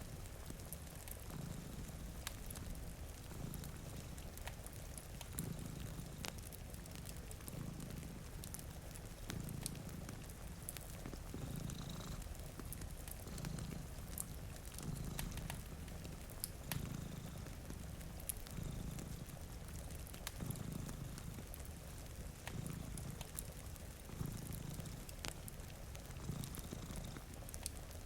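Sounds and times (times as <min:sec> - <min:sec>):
cat purring: 0:00.0 - 0:28.0
wood fire crackling: 0:00.0 - 0:28.0.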